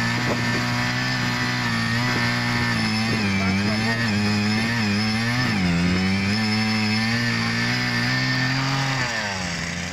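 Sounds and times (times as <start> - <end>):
earth auger engine running: 0.0 - 9.9.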